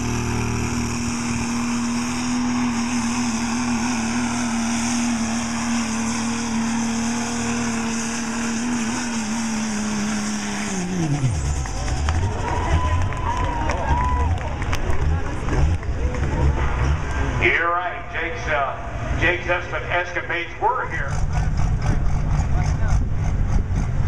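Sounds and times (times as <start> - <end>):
diesel engine at high revs: 0.0 - 24.0.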